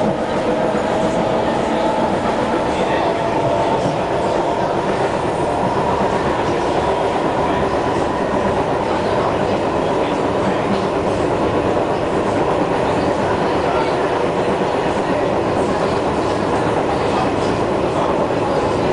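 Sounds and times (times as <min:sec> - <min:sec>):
train traction motors whining: 0:00.0 - 0:18.9
wheels rumbling on track: 0:00.0 - 0:18.9.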